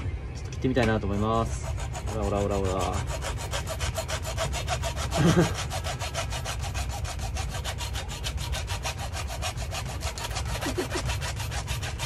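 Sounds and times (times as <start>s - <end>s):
hand saw cutting through shell: 0.8s - 12.0s.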